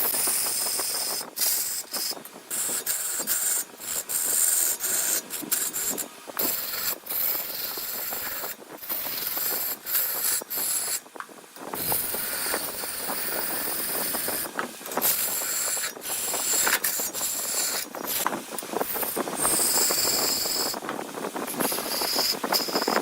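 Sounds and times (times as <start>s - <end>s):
lathe gouge scraping wood: 0.2s - 11.0s, 11.8s - 23.0s.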